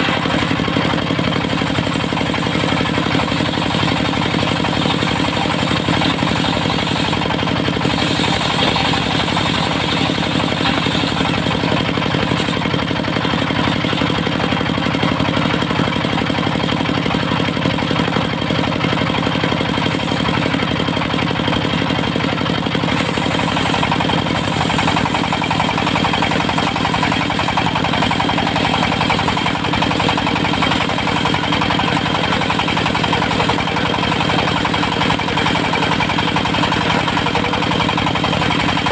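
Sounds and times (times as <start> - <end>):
sawmill engine droning: 0.0 - 38.9.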